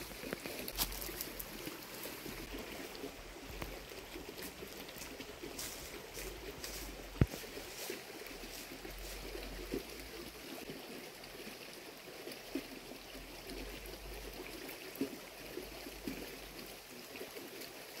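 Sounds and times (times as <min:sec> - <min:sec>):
stream trickling over stones: 0:00.0 - 0:18.0.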